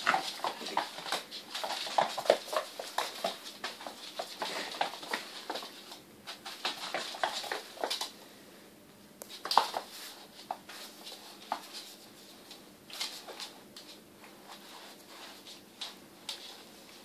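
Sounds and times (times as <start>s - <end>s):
claws scrabbling on laminate floor: 0.0s - 8.2s, 9.3s - 17.0s.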